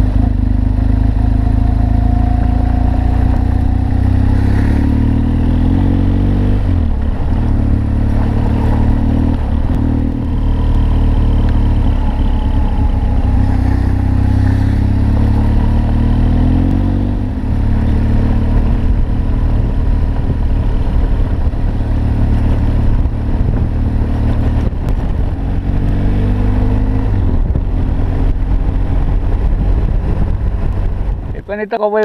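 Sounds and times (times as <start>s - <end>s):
motorcycle engine accelerating: 0.0s - 31.5s.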